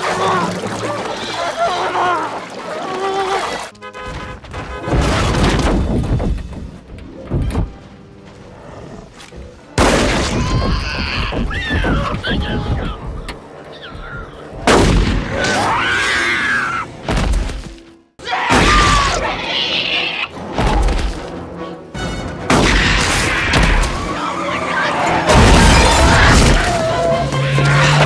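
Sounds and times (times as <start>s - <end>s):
dramatic film music: 0.0s - 28.0s.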